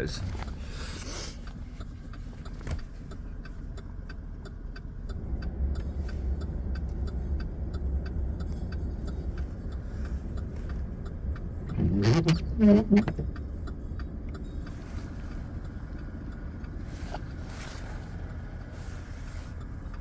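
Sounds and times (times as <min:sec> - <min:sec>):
engine and road rumble in cabin: 0:00.0 - 0:20.0
indicator relay ticking: 0:01.4 - 0:20.0.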